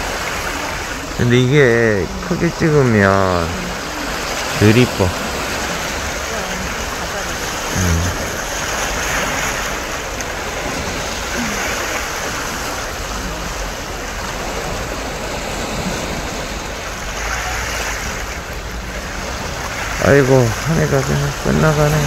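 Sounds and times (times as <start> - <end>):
sea water lapping against shore: 0.0 - 22.0.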